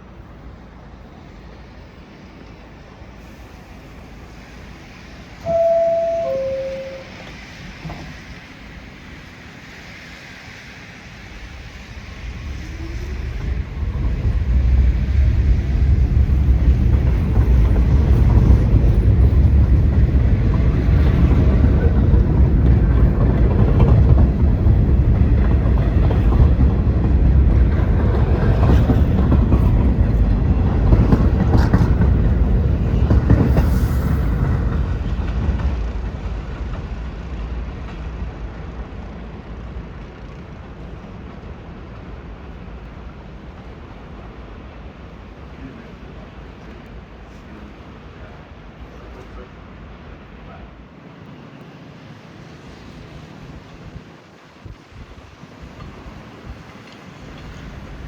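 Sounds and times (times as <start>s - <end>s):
subway train rumbling past: 0.0s - 58.0s.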